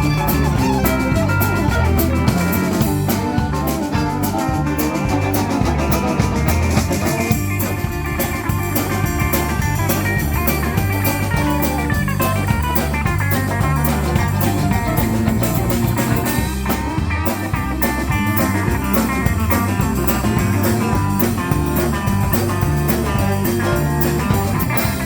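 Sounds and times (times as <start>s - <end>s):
country band playing: 0.0s - 25.0s
drum kit beat: 0.0s - 25.0s.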